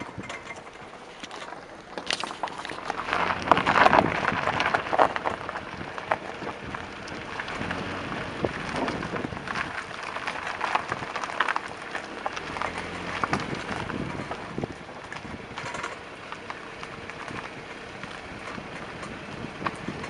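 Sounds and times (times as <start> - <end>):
brake caliper rattling: 0.0 - 20.0.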